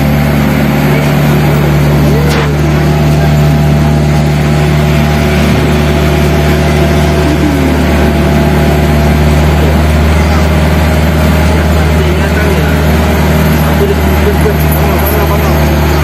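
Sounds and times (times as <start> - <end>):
mini train engine humming: 0.0 - 16.0.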